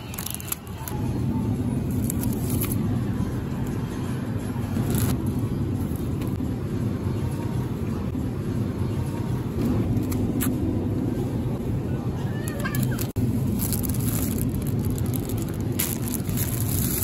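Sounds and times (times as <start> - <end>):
supermarket background rumble: 0.0 - 17.0.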